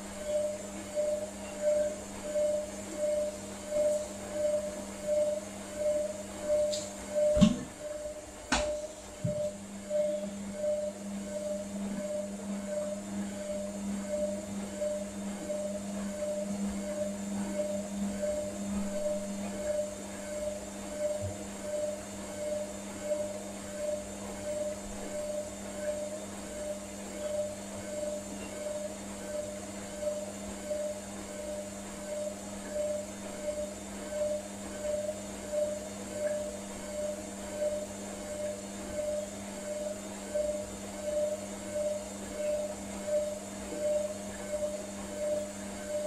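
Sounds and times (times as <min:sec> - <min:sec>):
washing machine motor hum: 0:00.0 - 0:46.0.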